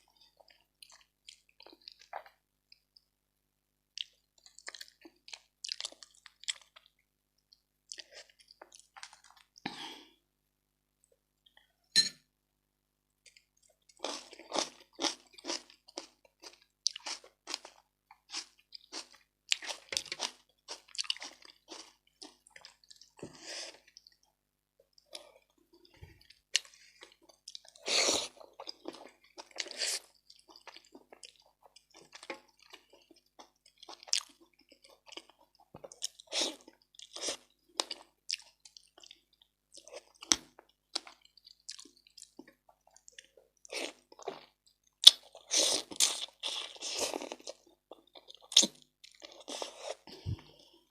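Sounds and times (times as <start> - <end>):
person chewing food: 0.0 - 3.1, 4.0 - 10.2, 13.2 - 50.9.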